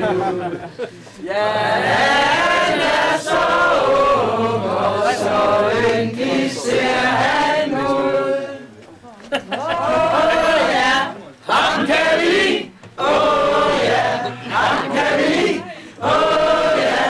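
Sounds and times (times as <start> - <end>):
group singing in chorus: 0.0 - 8.8, 9.8 - 17.0.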